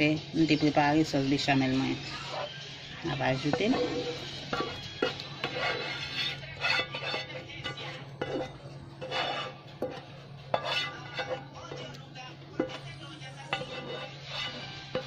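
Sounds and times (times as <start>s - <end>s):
spatula scraping a pot: 1.4s - 15.0s.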